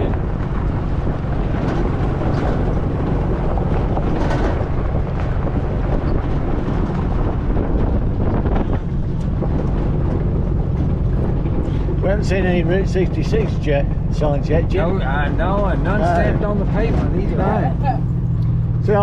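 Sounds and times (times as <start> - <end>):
car engine drone: 0.0 - 19.0
road and wind noise: 0.0 - 19.0
wind buffeting microphone: 0.0 - 19.0.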